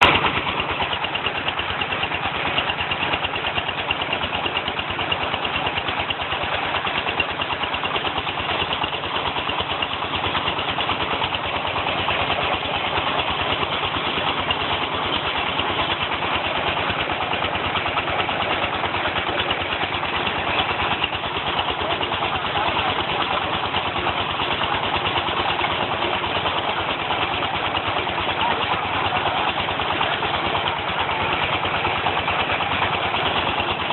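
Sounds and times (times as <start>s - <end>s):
brick press machine running: 0.0s - 33.9s.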